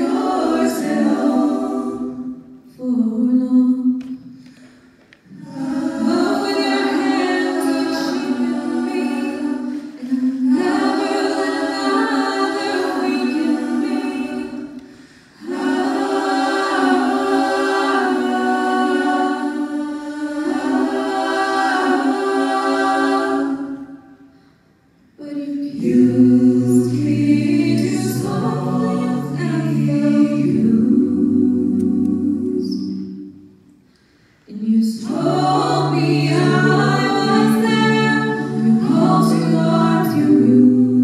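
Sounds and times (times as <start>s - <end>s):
a cappella group singing chords: 0.0s - 41.0s.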